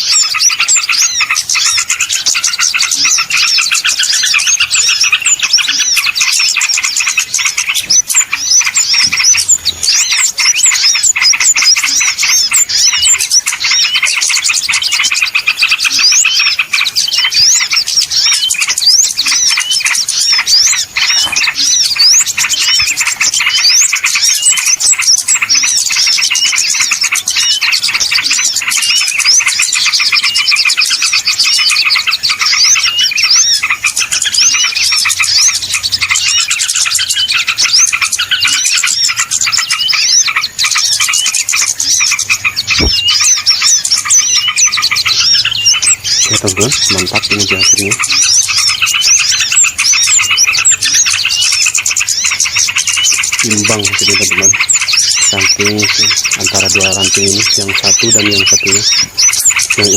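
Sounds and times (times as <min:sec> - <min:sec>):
songbird chorus chirping: 0:00.0 - 0:59.9.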